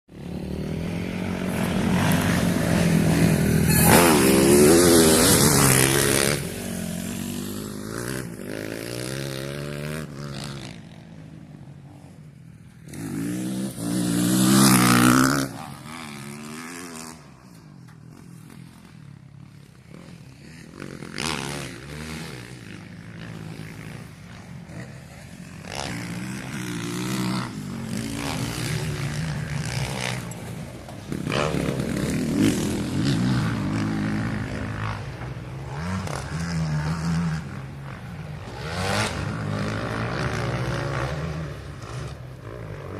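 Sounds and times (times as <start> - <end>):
motocross bikes revving past: 0.1 - 42.9.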